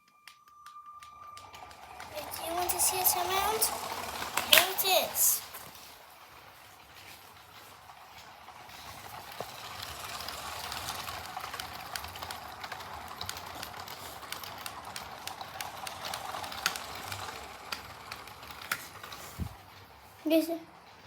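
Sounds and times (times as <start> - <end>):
plastic wheel clicks on track: 0.6 - 19.8
toy train motor whirring: 1.4 - 21.0.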